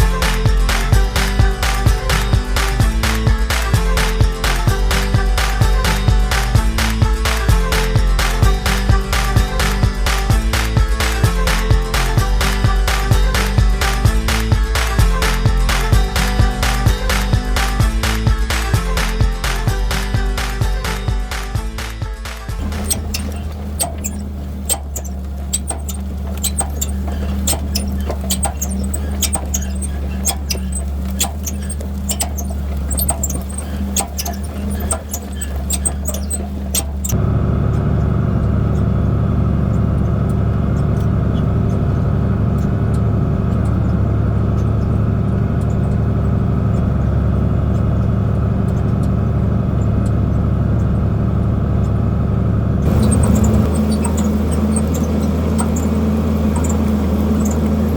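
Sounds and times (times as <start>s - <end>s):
rapid clicking and rattling: 0.0s - 20.8s, 22.6s - 52.0s, 52.8s - 57.9s
tractor diesel engine running: 0.0s - 57.9s.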